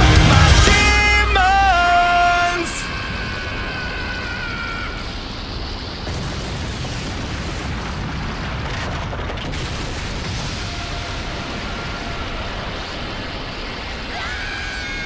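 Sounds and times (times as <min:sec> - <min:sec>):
rumbling energy blast explosion: 0:00.0 - 0:14.1.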